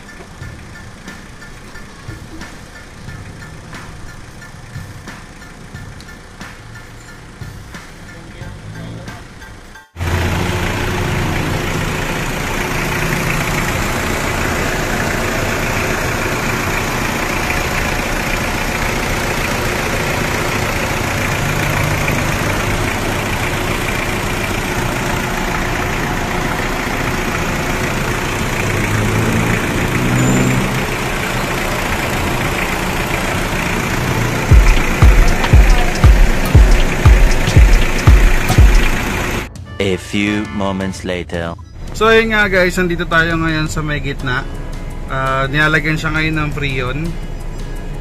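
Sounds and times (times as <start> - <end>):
car engine idling: 0.0 - 39.6, 41.6 - 48.0.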